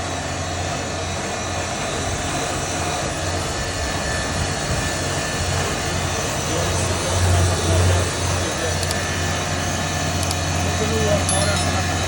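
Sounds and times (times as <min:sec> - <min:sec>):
motor hum: 0:00.0 - 0:12.0.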